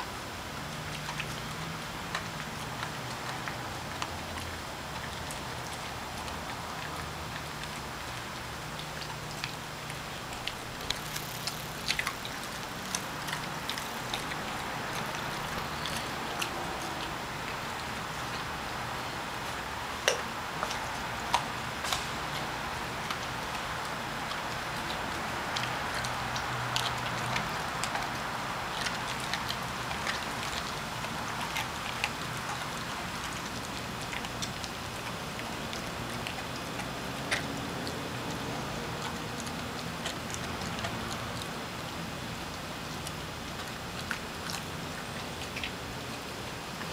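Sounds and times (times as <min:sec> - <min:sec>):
low background hum: 0:00.0 - 0:46.9
dog chewing crunching: 0:00.6 - 0:46.9.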